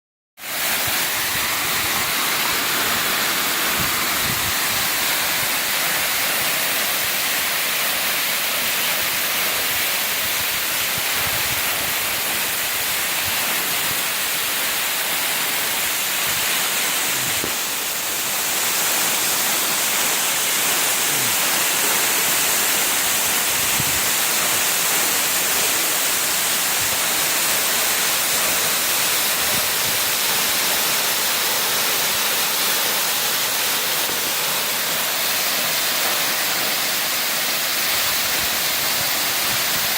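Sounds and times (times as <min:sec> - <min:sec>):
waterfall pouring: 0:00.4 - 0:39.9.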